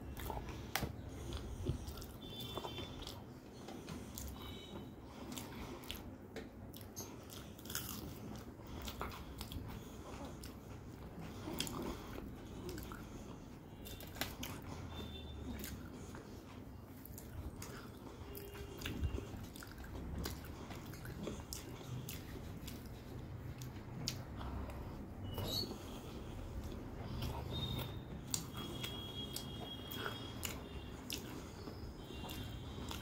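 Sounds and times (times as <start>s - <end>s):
wet chewing: 0.0s - 33.0s.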